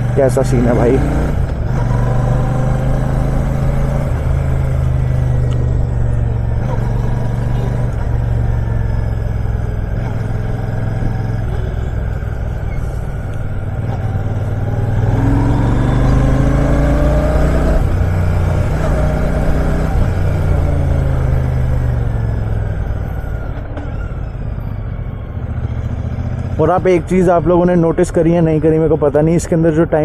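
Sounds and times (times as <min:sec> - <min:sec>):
motorcycle engine accelerating: 0:00.0 - 0:29.0
city traffic: 0:00.0 - 0:30.0.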